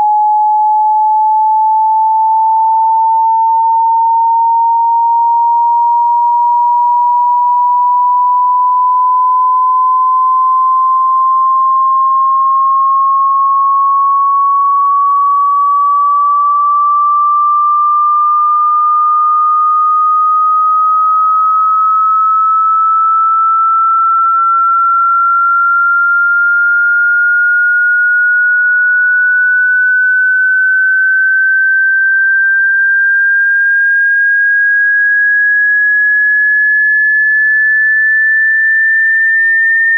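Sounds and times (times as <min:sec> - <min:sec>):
rising sine tone: 0:00.0 - 0:39.9.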